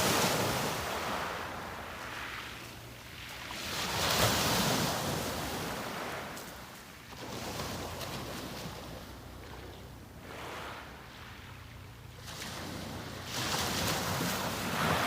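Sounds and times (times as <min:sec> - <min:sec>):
sea waves washing up a beach: 0:00.0 - 0:15.0.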